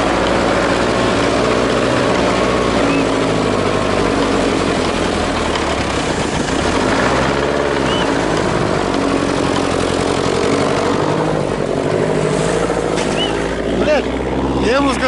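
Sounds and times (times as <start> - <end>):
truck engine running under load: 0.0 - 15.0.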